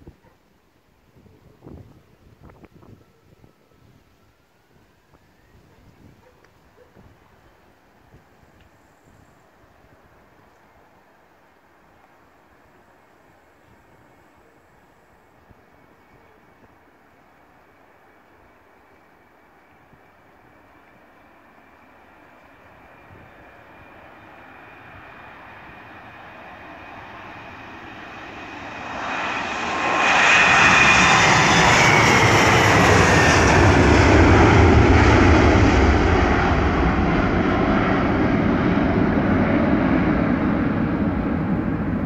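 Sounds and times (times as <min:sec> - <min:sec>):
jet engines at takeoff: 0:01.9 - 0:42.0.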